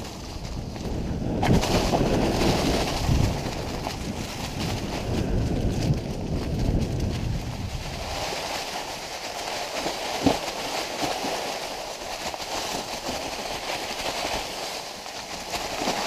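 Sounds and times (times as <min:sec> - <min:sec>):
bike tyres rustling dry leaves: 0:00.0 - 0:16.0.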